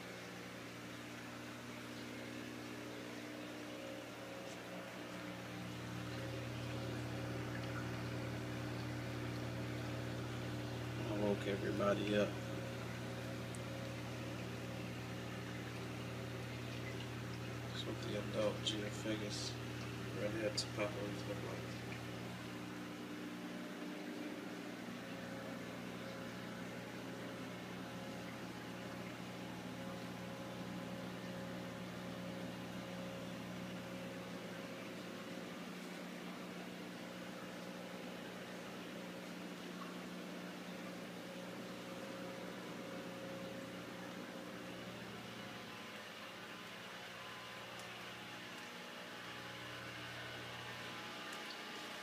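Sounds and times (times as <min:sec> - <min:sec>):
aquarium pump hum: 0:00.0 - 0:52.0.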